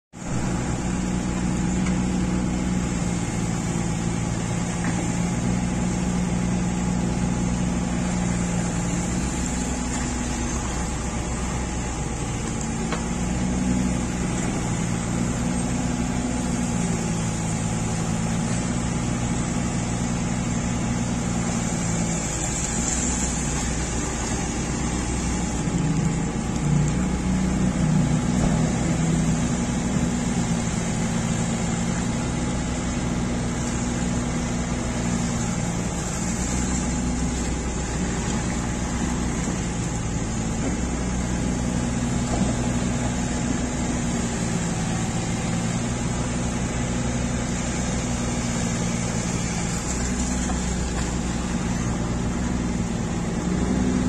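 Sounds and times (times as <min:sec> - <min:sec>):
diesel excavator engine: 0:00.1 - 0:54.0.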